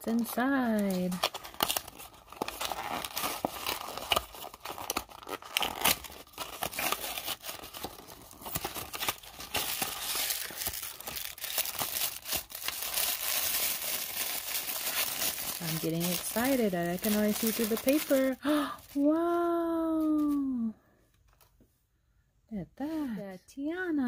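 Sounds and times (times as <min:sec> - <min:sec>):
paper wrapping tearing and crinkling: 0:00.1 - 0:20.5.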